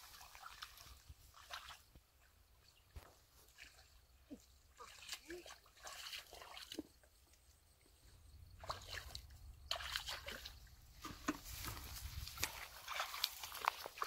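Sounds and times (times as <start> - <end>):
feet wading through muddy water: 0.0 - 7.1, 8.5 - 14.0.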